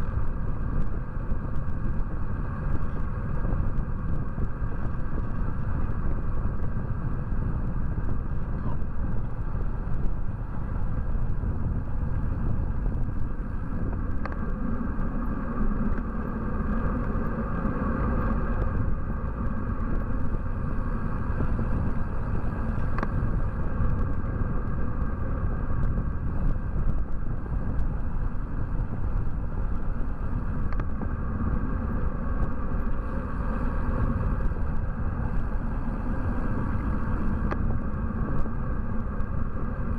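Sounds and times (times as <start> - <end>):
road noise while cycling: 0.0 - 39.9
wind rumble on microphone: 0.0 - 39.9.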